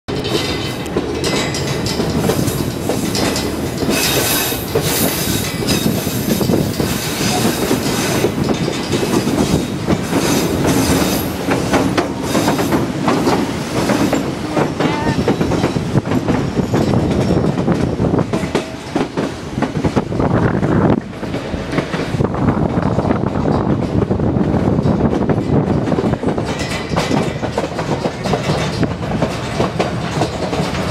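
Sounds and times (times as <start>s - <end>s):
train wheels clattering on rails: 0.1s - 30.9s.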